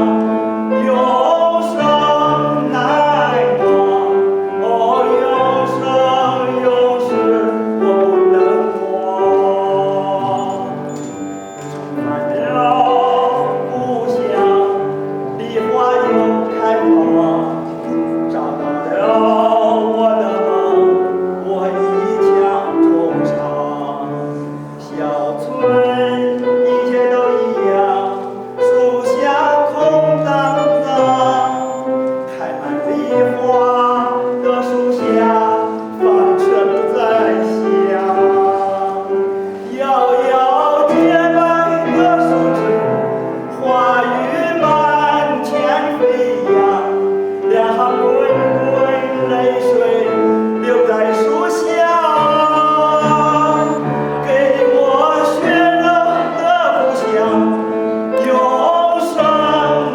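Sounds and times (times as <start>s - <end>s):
classical-style singing with vibrato: 0.0s - 59.9s
instrumental accompaniment: 0.0s - 59.9s.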